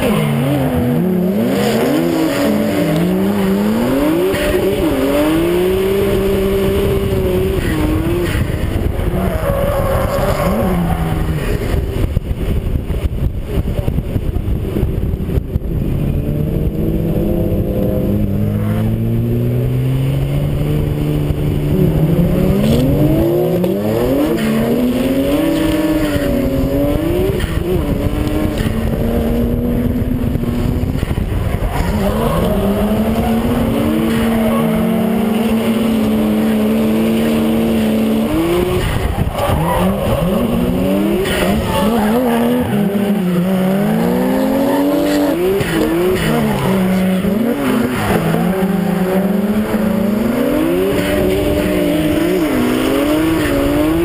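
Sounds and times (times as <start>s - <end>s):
car engine revving: 0.0s - 54.0s
dense low rumble: 2.7s - 52.2s.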